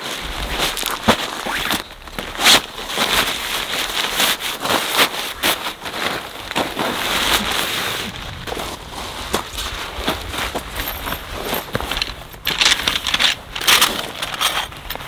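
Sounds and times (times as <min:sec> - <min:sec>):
tent fabric rustling and crinkling: 0:00.0 - 0:15.0.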